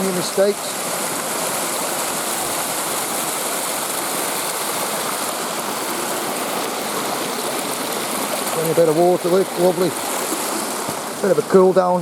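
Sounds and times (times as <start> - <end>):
stream running: 0.0 - 12.0.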